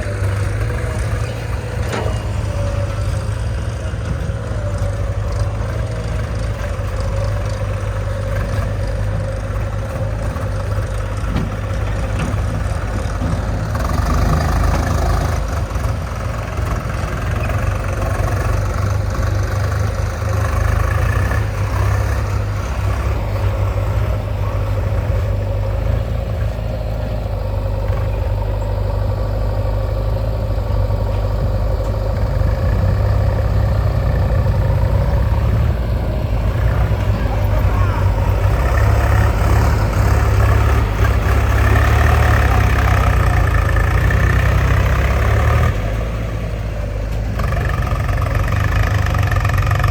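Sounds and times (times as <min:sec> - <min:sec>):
heavy diesel engine running: 0:00.0 - 0:49.9.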